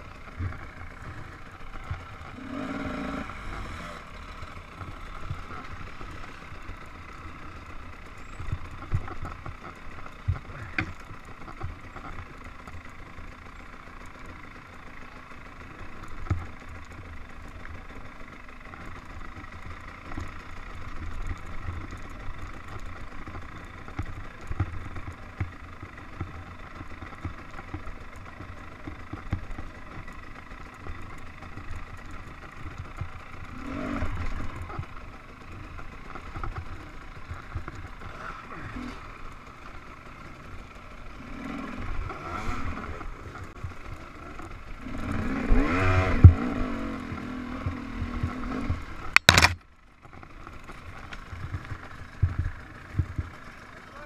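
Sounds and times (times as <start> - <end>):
dirt bike engine at low revs: 0.0 - 54.0.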